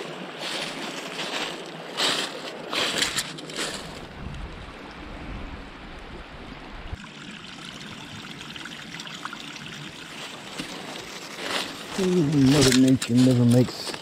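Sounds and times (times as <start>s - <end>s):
creek trickling over rocks: 0.0s - 5.2s, 5.8s - 14.0s.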